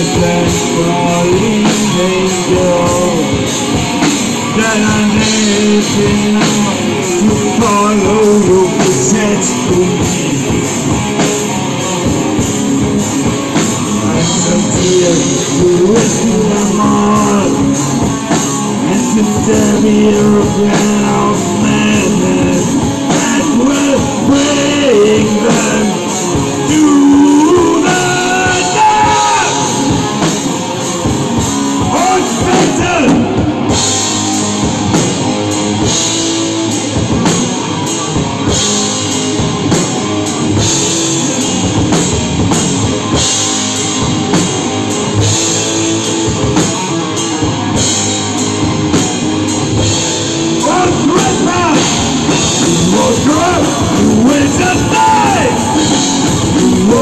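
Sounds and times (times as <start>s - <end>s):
electric guitar bending notes: 0.0s - 57.0s
steady drum beat: 0.0s - 57.0s.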